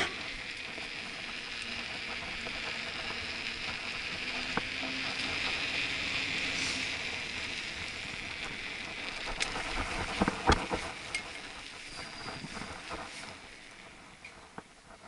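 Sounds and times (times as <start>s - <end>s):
bike clicks and rattles: 0.0s - 15.0s
bike tyres and wind hissing: 0.0s - 15.0s.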